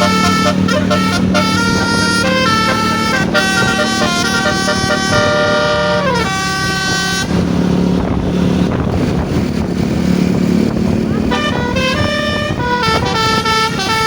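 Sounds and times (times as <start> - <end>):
multi-tone bus horn melody: 0.0 - 8.3, 10.8 - 14.0
engine and road noise: 0.0 - 14.0.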